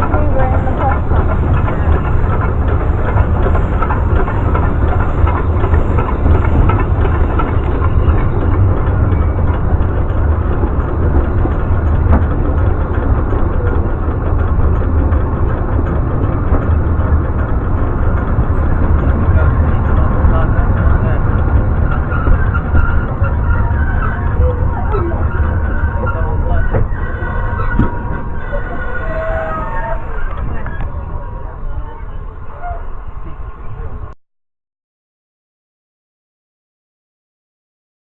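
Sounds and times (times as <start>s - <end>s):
train running rumble: 0.0s - 34.2s.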